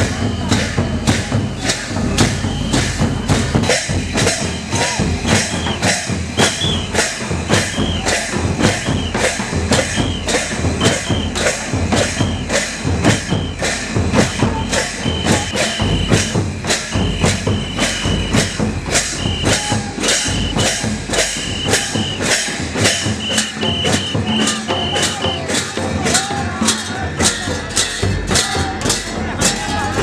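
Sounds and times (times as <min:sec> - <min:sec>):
hand drums beating: 0:00.0 - 0:30.0
jingling percussion: 0:00.0 - 0:30.0.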